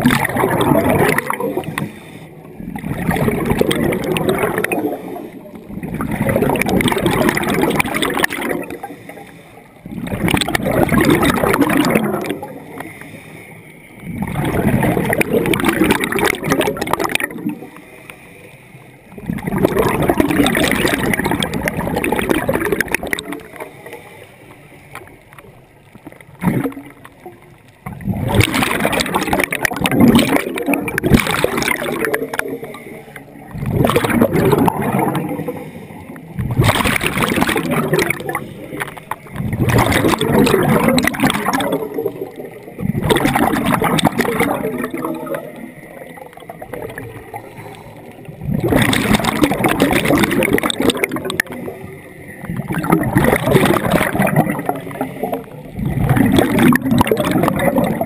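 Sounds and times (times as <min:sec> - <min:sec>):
exhaled bubbles gurgling underwater: 0:00.0 - 0:58.0.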